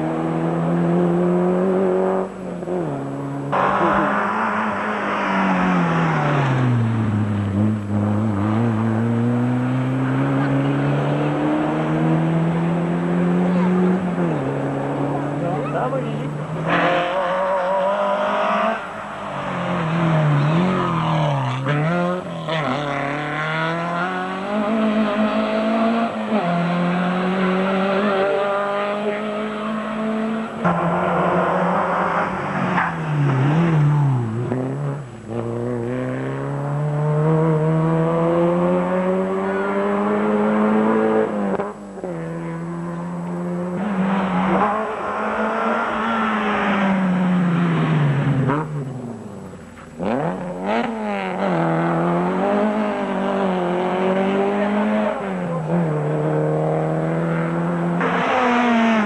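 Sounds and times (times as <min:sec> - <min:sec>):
rally car engine accelerating: 0:00.0 - 0:59.0.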